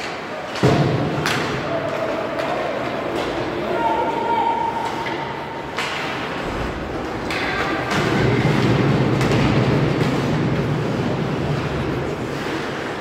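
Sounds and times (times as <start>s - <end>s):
hockey sticks and puck clacking: 0.0s - 13.0s
low arena rumble: 0.6s - 13.0s.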